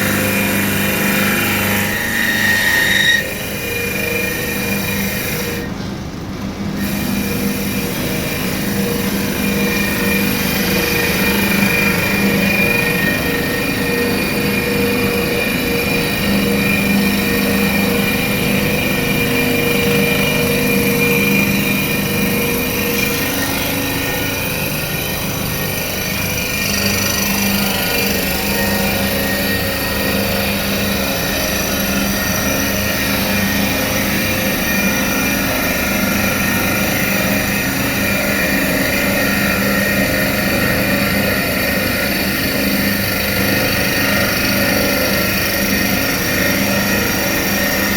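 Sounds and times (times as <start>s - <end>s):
lathe machine humming: 0.0s - 47.9s.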